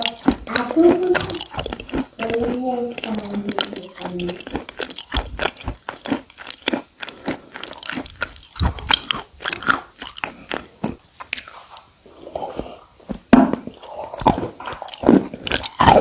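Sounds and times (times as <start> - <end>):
biting and crunching stone: 0.0 - 11.5, 13.2 - 16.0
soft chewing: 0.0 - 16.0.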